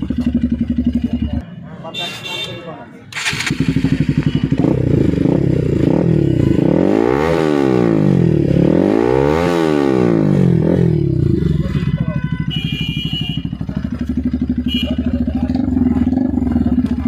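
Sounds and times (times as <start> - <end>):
motorcycle engine idling and revving: 0.0 - 1.6, 3.1 - 17.0.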